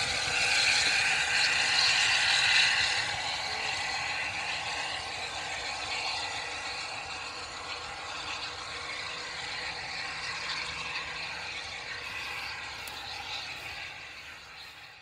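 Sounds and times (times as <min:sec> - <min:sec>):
distant steam railcar running: 0:00.0 - 0:15.0.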